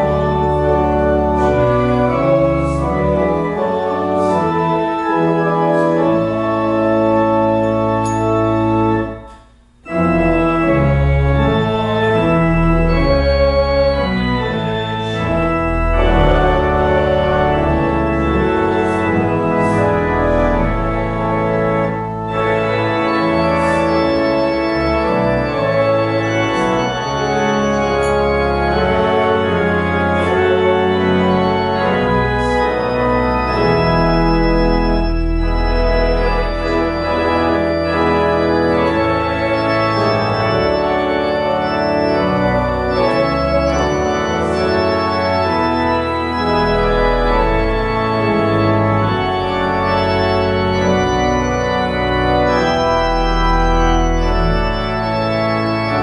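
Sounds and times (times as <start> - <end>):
pipe organ chords: 0.0 - 56.0.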